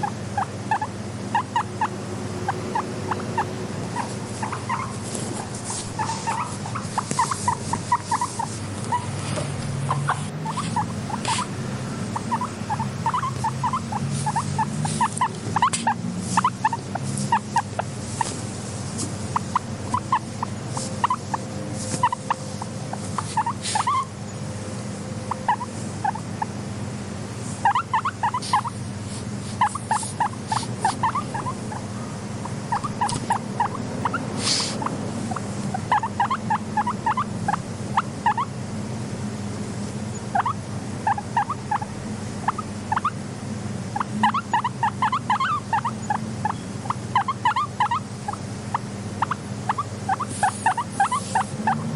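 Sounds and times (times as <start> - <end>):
guinea pigs squeaking: 0.0 - 24.4, 25.2 - 26.6, 27.4 - 38.5, 40.1 - 43.2, 43.9 - 51.9
low steady hum: 0.0 - 51.9.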